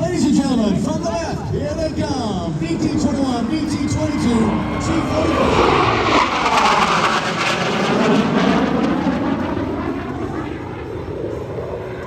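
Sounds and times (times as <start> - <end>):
jets flying past: 0.1 - 12.0.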